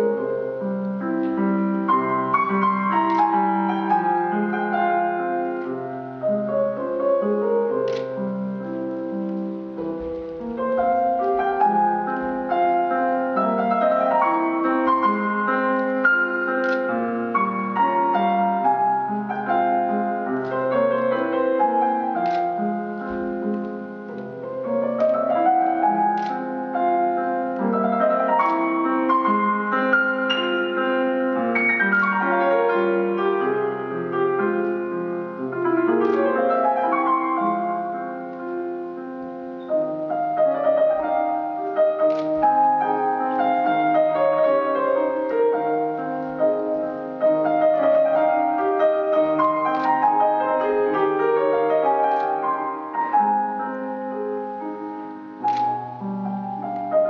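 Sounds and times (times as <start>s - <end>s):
slow piano music: 0.0s - 57.0s.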